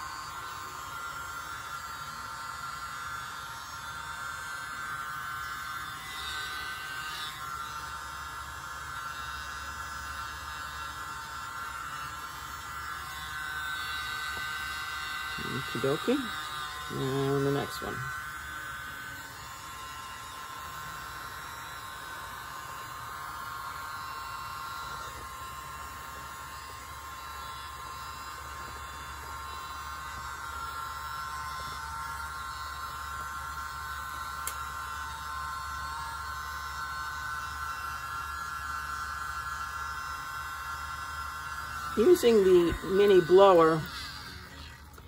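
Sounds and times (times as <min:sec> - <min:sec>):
mini leaf blower whirring: 0:00.0 - 0:45.0.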